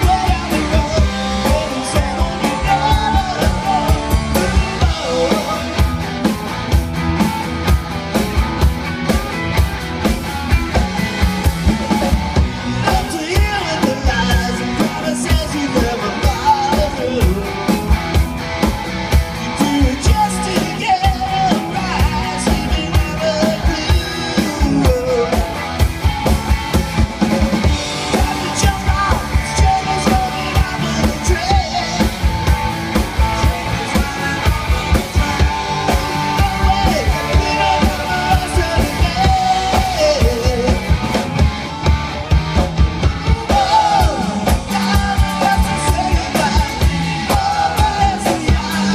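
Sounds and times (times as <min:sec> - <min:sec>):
lead vocal: 0:00.0 - 0:07.0, 0:11.0 - 0:42.3, 0:43.0 - 0:48.9
drum kit beating: 0:00.0 - 0:48.9
live rock band playing: 0:00.0 - 0:48.9.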